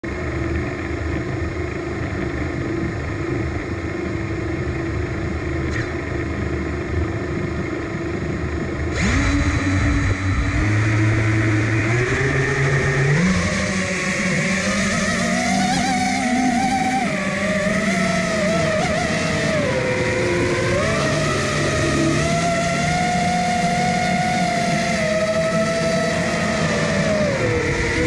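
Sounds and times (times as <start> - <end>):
drone motors whining: 0.1 - 28.0.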